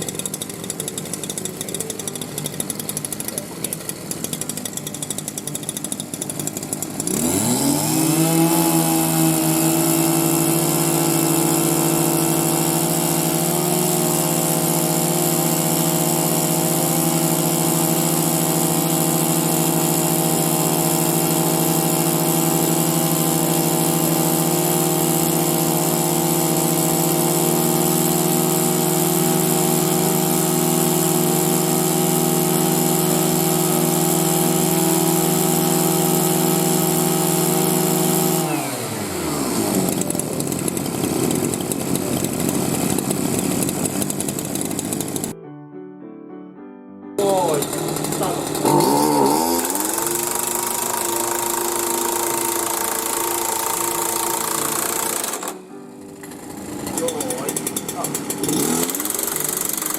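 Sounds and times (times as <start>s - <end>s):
small gasoline engine revving: 0.0s - 45.4s, 47.2s - 59.9s.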